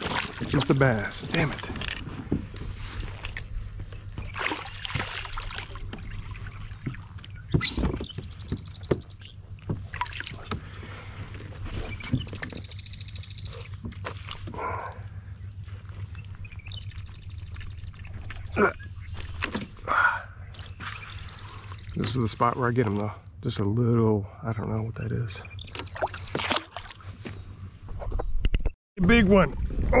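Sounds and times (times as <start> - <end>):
low steady rumble: 0.0 - 25.6.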